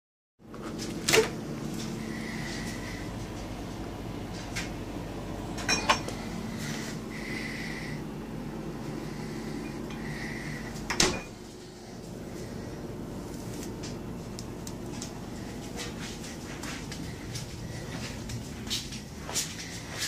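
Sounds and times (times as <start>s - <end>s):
refrigerator hum: 0.4s - 20.0s.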